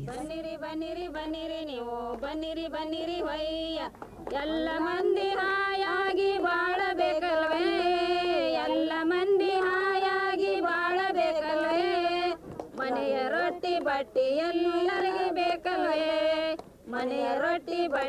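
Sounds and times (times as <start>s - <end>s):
women singing folk song: 0.0s - 18.0s.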